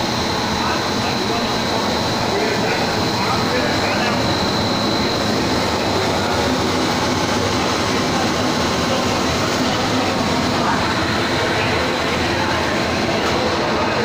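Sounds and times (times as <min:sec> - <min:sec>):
dense machine noise: 0:00.0 - 0:14.0
thin high whine: 0:00.0 - 0:14.0.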